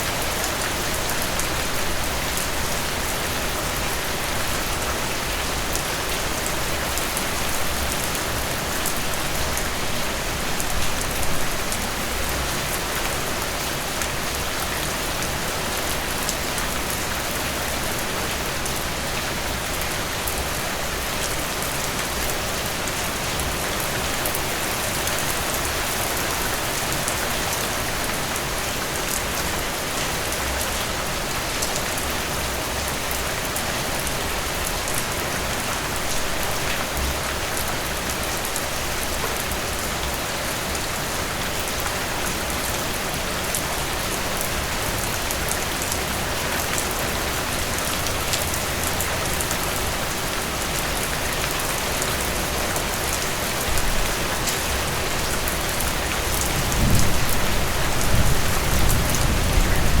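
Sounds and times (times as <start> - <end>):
rain on a hard surface: 0.0 - 60.0.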